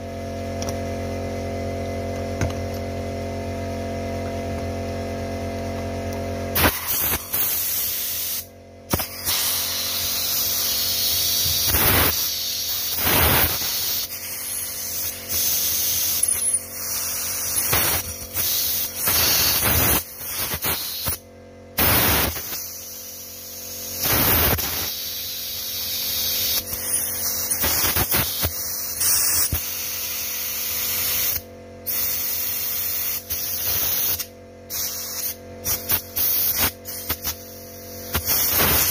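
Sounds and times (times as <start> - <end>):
steady hum: 0.0 - 38.9
compressed air blasts: 6.5 - 21.2, 21.8 - 38.9.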